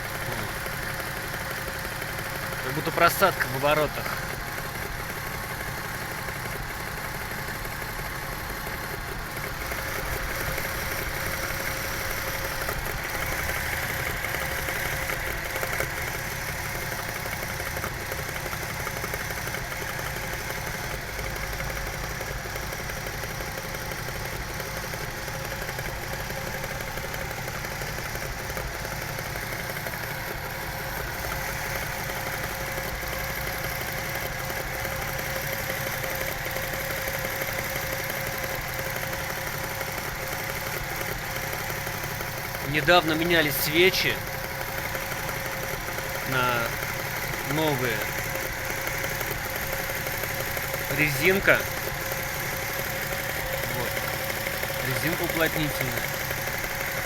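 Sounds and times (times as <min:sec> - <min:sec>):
car engine idling with knock: 0:00.0 - 0:57.0.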